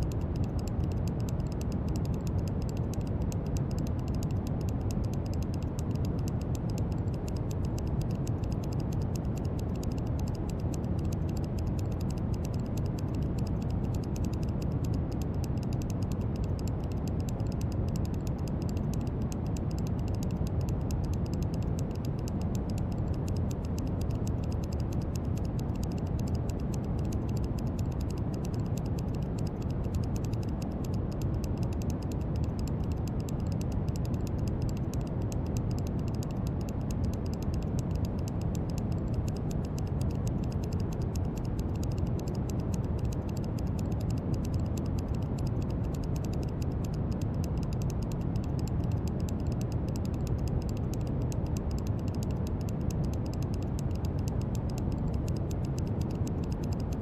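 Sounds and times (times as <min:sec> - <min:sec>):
fast patter of tiny clicks: 0:00.0 - 0:57.0.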